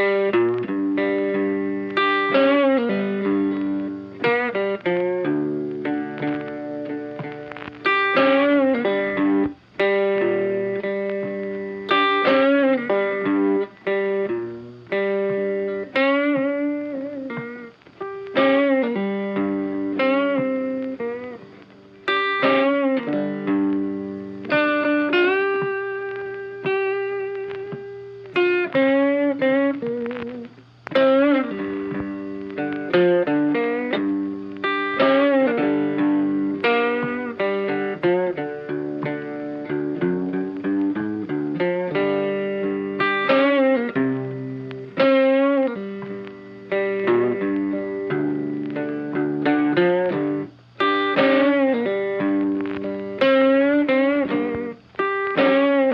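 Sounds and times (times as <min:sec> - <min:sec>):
funky guitar and bass music: 0:00.0 - 0:55.9.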